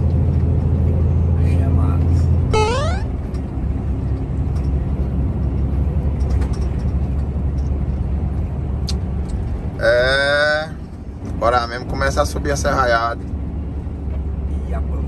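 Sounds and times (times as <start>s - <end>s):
road noise inside cab: 0.0s - 2.5s, 3.1s - 15.0s.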